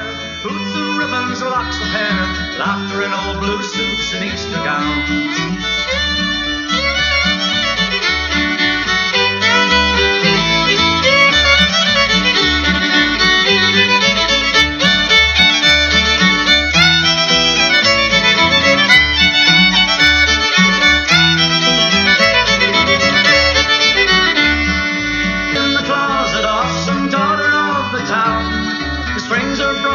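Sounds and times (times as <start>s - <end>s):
person singing: 0.0s - 6.2s, 8.9s - 29.9s
fiddle playing: 0.0s - 29.9s
pulsing bass line: 3.2s - 29.7s.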